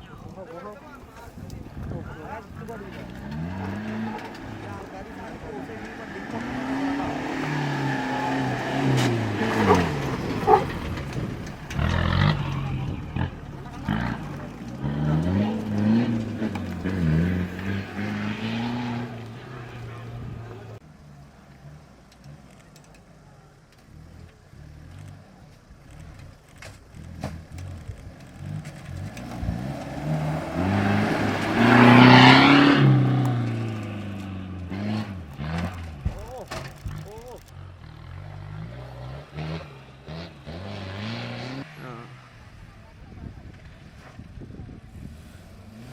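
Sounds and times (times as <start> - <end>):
engine running under load: 0.0 - 45.9.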